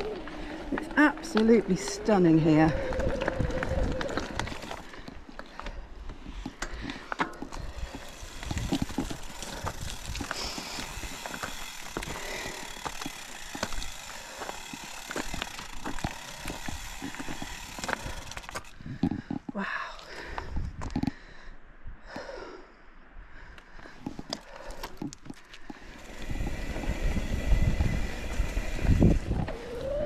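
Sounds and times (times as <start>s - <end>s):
bike knocking and rattling: 0.0s - 19.6s, 24.0s - 30.0s
bike tyres rolling over dirt and stones: 0.0s - 21.3s, 23.8s - 30.0s.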